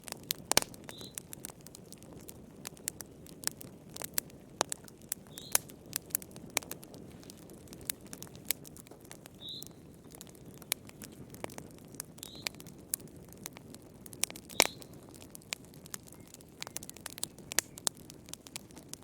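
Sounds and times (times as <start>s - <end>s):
high chirp from fire: 0.0s - 19.0s
wood fire crackling: 0.0s - 19.0s.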